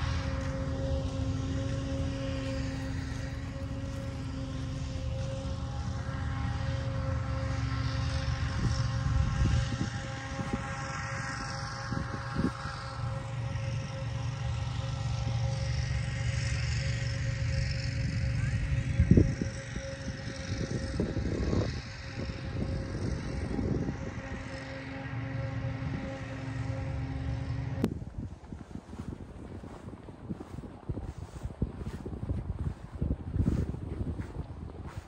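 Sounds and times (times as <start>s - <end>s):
engine drone: 0.0s - 35.0s
low rumble: 0.0s - 35.0s.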